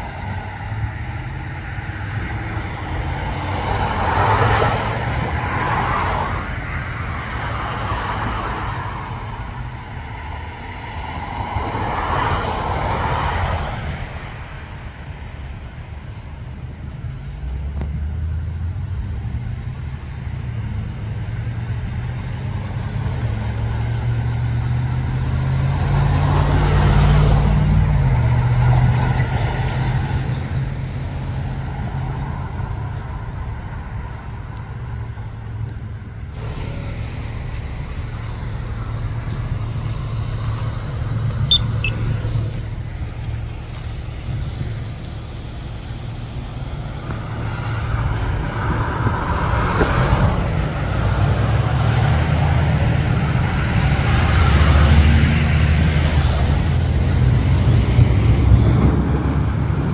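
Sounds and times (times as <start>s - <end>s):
cars and trucks driving by: 0.0s - 59.9s.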